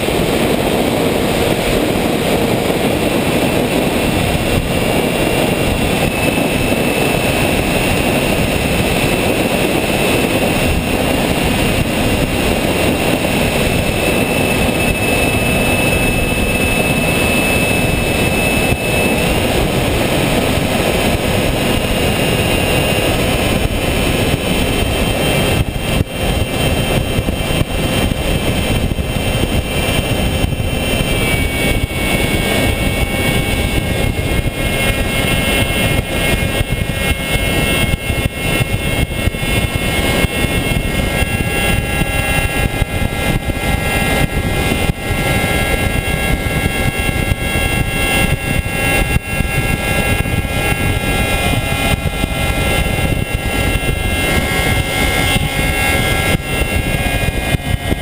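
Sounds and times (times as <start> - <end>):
thin motor whine: 0.0 - 58.0
wind and propeller noise: 0.0 - 58.0.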